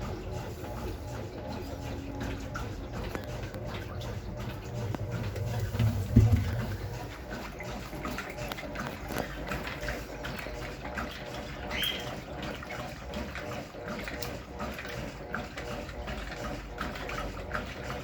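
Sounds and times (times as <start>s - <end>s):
washing machine motor hum: 0.0s - 18.0s
water sloshing in washing machine: 0.0s - 18.0s.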